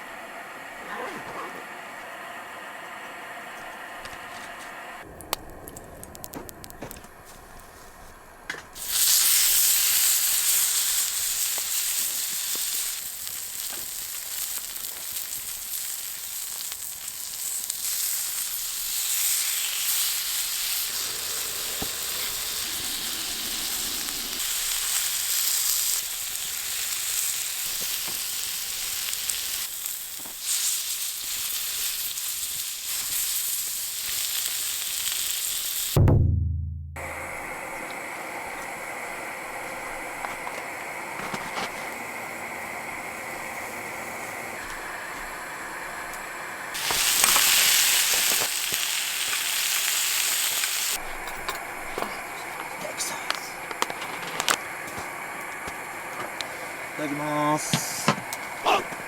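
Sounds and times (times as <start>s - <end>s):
food sizzling in a pan: 8.8s - 36.0s, 37.6s - 59.0s.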